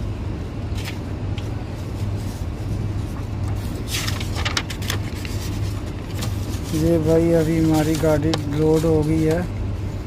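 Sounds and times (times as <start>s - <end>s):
paper rustling: 0.7s - 9.5s.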